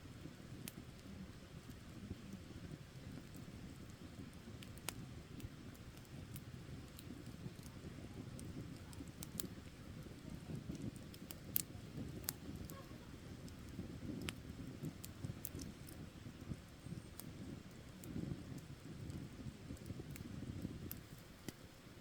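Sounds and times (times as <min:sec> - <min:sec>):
flames rustling: 0:00.0 - 0:22.0
wood crackling and popping: 0:00.0 - 0:22.0.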